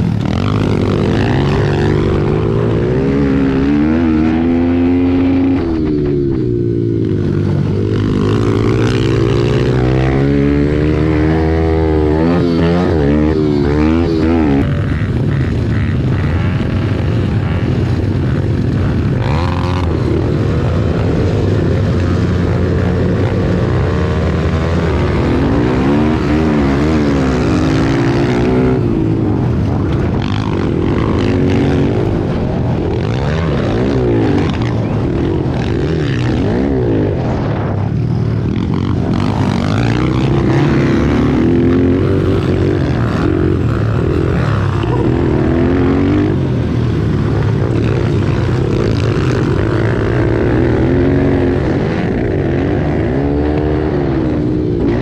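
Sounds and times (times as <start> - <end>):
pit bike engines revving: 0.0 - 55.0.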